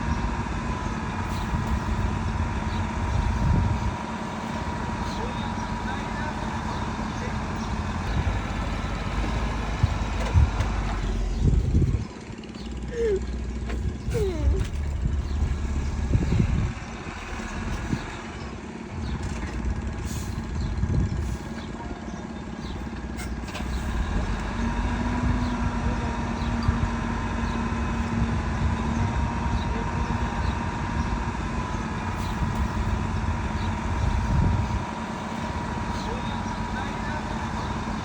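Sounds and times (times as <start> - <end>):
diesel construction machinery running: 0.0 - 38.0.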